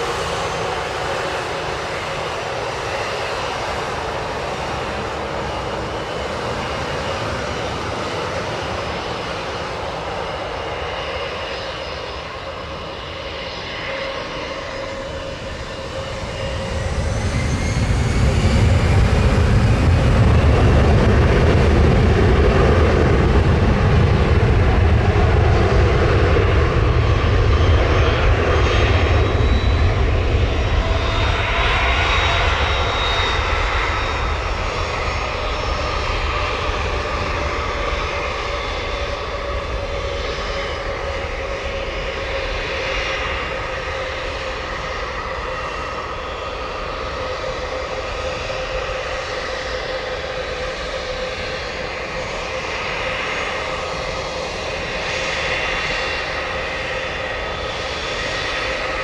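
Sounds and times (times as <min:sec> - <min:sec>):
jet airliner taking off: 0:00.0 - 0:59.0.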